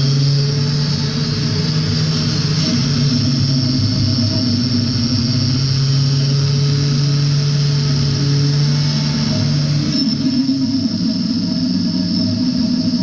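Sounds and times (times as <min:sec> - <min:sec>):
power saw cutting metal: 0:00.0 - 0:13.0.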